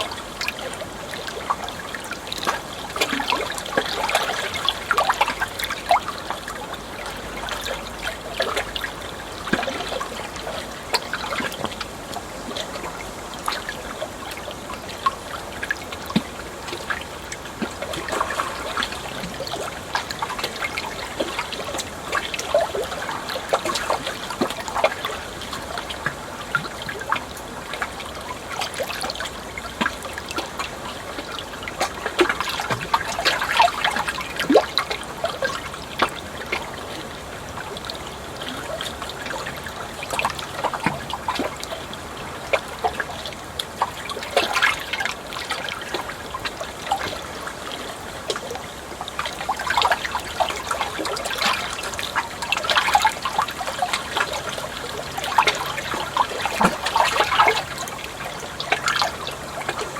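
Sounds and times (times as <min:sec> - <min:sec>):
small splashes and drips: 0:00.0 - 0:59.9
water trickling and splashing: 0:00.0 - 0:59.9.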